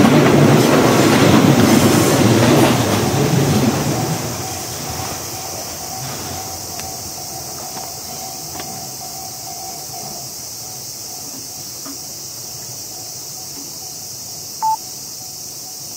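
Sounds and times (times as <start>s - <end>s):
train pulling away: 0.0s - 15.9s
steady high hiss: 1.9s - 15.9s.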